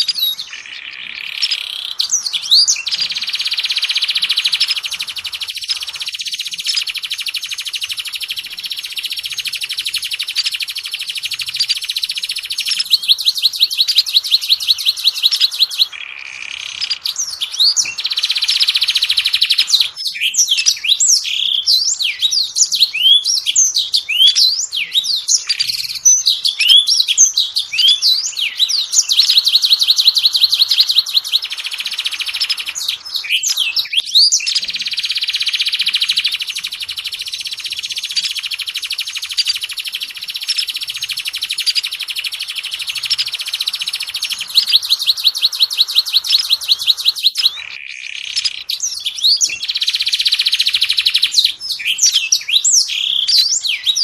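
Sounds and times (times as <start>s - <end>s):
songbird whistling and chattering: 0.0s - 54.0s.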